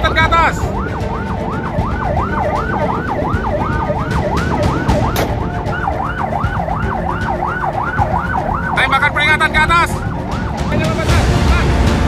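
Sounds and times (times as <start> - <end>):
siren wailing up and down: 0.0 - 10.8
wind: 0.0 - 12.0.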